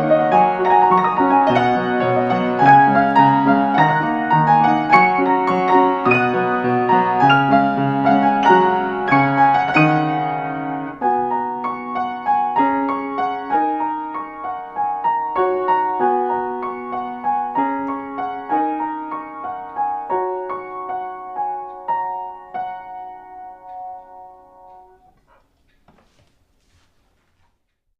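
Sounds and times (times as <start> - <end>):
solo piano music: 0.0 - 25.4.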